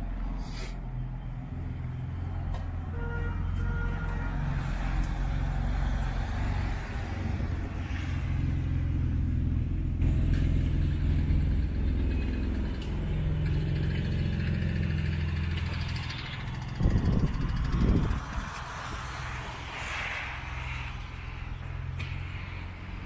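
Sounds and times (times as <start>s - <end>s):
road traffic: 0.0s - 23.0s
vehicle engine running: 0.0s - 23.0s.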